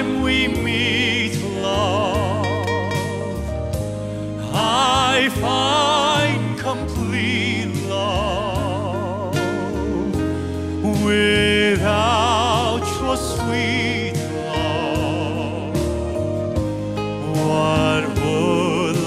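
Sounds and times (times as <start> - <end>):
instrumental accompaniment: 0.0 - 19.0
man singing a slow ballad: 0.0 - 19.0.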